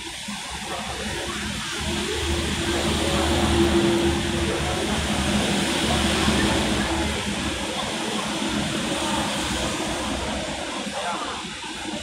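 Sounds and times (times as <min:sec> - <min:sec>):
rain on wet pavement: 0:00.0 - 0:12.0.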